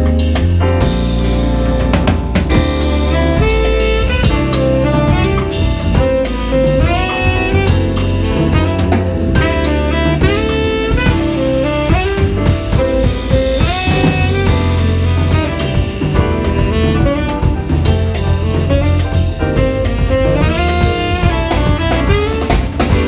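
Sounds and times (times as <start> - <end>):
bass: 0.0 - 23.0
drum kit: 0.0 - 23.0
piano: 0.0 - 23.0
tenor saxophone melody: 2.5 - 23.0.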